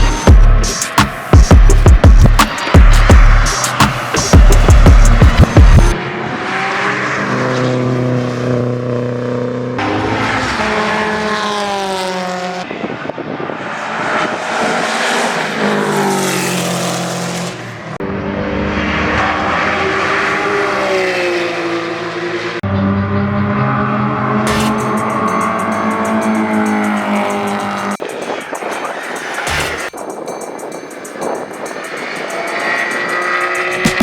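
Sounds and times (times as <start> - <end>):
race car engines revving: 0.0 - 34.0.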